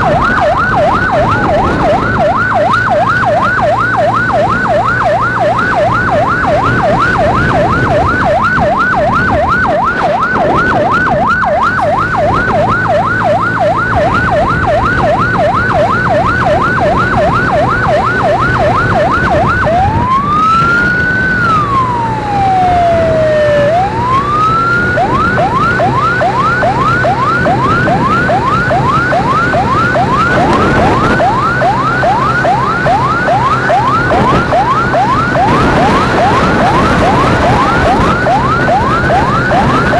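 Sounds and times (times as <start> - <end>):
electronic siren yelp and wail: 0.0 - 39.9
engine and road hum: 0.0 - 39.9.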